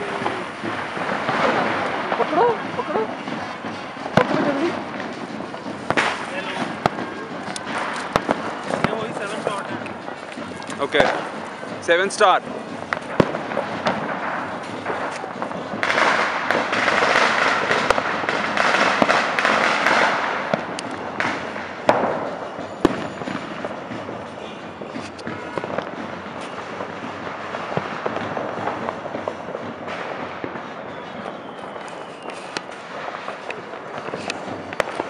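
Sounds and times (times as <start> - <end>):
firecrackers crackling: 0.0 - 35.0
sharp firework cracks: 0.0 - 35.0.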